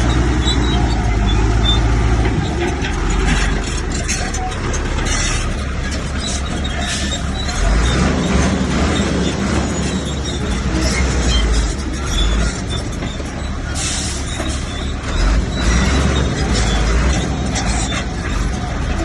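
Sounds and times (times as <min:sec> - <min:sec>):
bulldozer diesel engine under load: 0:00.0 - 0:19.0
steel tracks clanking and squealing: 0:00.0 - 0:19.0.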